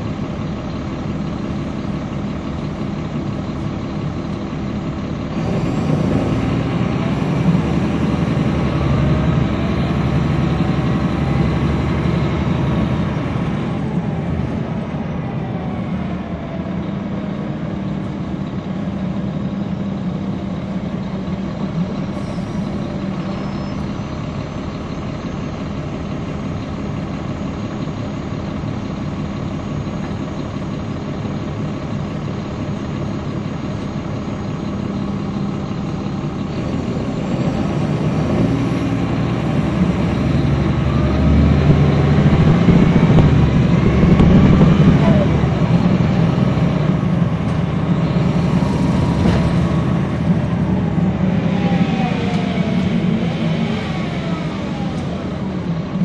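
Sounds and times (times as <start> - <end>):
bus diesel engine with whine: 0.0 - 56.0.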